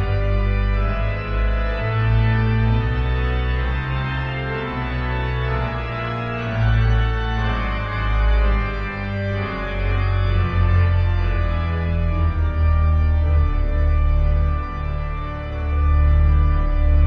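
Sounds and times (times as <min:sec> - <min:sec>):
pipe organ playing chords: 0:00.0 - 0:17.0.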